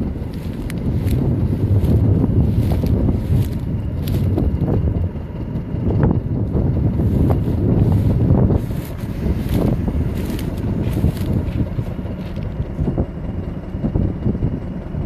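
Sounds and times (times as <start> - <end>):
locomotive rumble: 0.0 - 15.0
wind buffeting microphone: 0.0 - 15.0.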